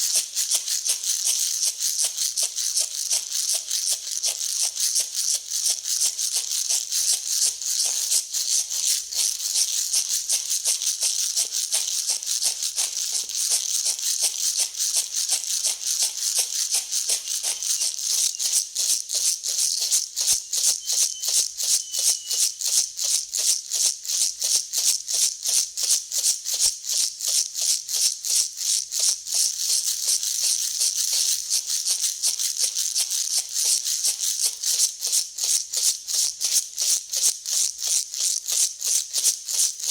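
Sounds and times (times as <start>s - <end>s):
dry grain rattling being mixed: 0.0s - 24.4s, 26.9s - 39.9s.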